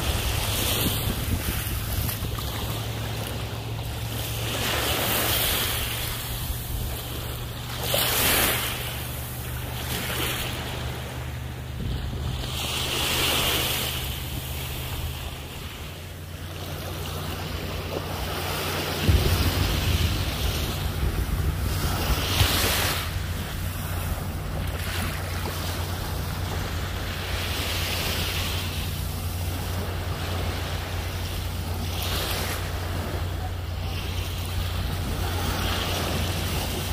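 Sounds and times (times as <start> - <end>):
wind buffeting microphone: 0.0 - 33.8
low rumble: 0.0 - 36.9
small waves lapping on shore: 0.0 - 36.9.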